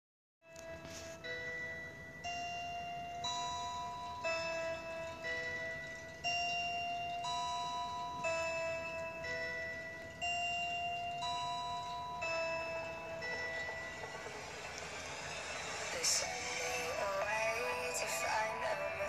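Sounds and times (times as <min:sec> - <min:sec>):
instrumental background music: 0:00.4 - 0:19.0.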